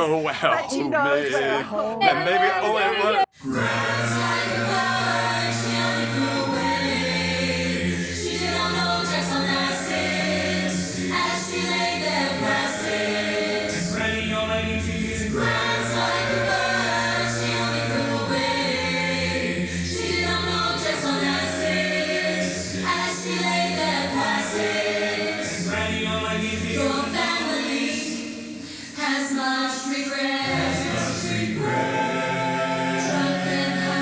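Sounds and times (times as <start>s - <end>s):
choir singing held chords: 0.0s - 34.0s.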